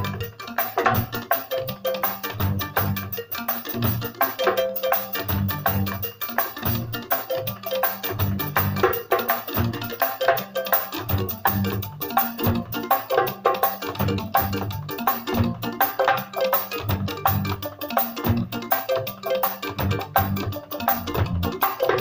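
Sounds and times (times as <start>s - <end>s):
drum kit: 0.0s - 22.0s
hand drum fast rhythm: 0.0s - 22.0s.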